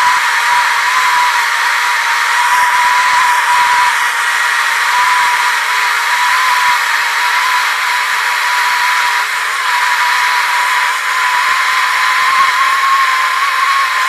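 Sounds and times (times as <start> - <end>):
thin steady whistle: 0.0 - 14.0.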